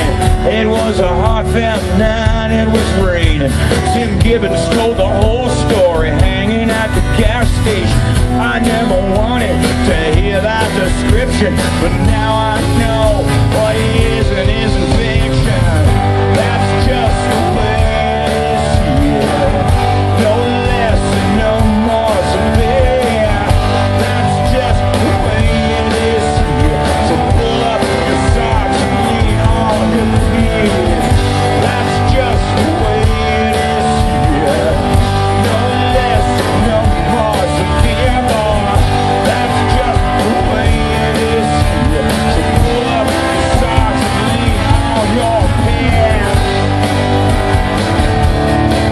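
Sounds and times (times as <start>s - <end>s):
bass guitar: 0.0s - 48.9s
distorted electric guitars: 0.0s - 48.9s
drum hits: 0.0s - 48.9s.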